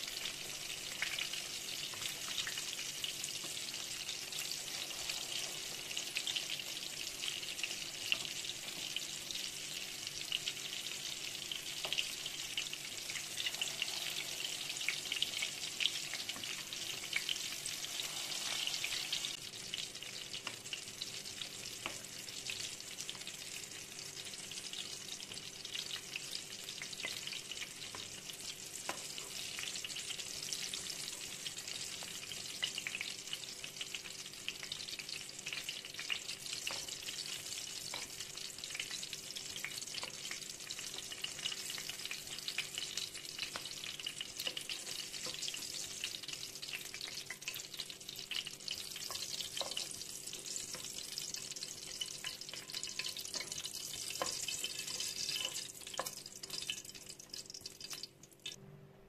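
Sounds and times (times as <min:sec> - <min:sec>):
meatballs sizzling in oil: 0:00.0 - 0:58.6.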